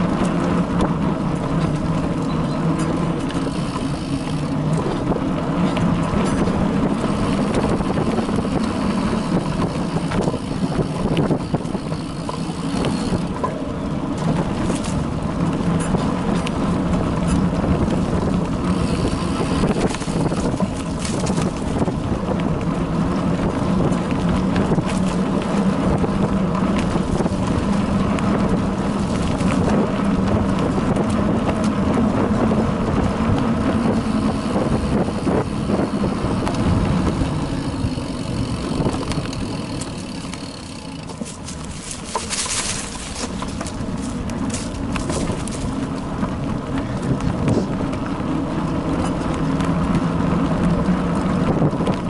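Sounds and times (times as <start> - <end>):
bicycle tyre rumble: 0.0 - 52.0
bike rattling over bumps: 0.0 - 52.0
wind on microphone: 0.0 - 52.0.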